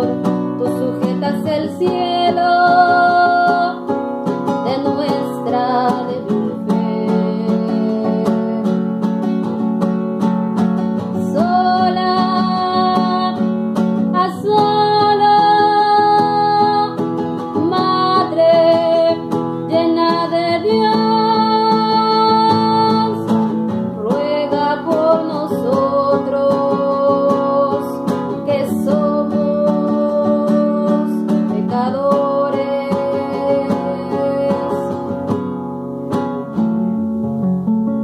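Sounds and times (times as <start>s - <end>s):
woman singing: 0.0s - 9.3s, 11.0s - 35.6s
strummed classical guitar: 0.0s - 38.0s.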